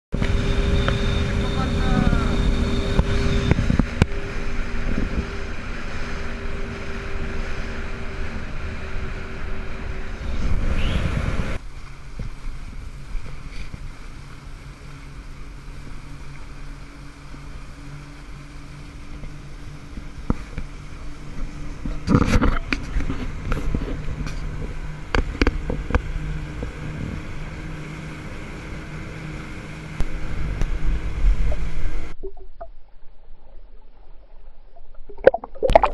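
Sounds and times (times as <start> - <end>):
wind: 0.0 - 35.9
low hum: 0.1 - 35.9
motorboat engine running: 0.1 - 35.9
water noise: 0.1 - 35.9.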